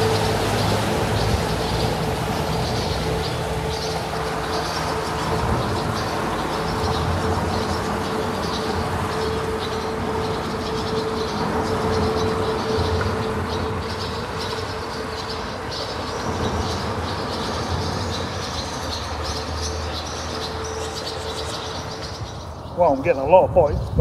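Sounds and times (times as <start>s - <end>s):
engine rumble with droning hum: 0.0s - 21.7s.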